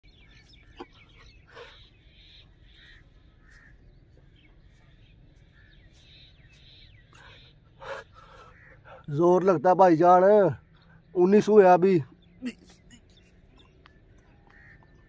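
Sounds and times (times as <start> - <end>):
faint birds calling: 0.0 - 15.0.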